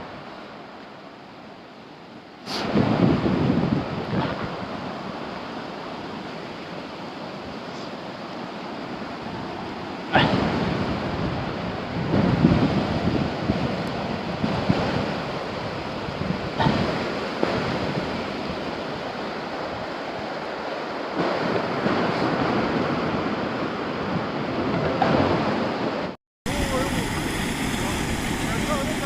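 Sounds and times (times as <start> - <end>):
flood water rushing: 0.0 - 29.0
wind buffeting microphone: 2.5 - 29.0.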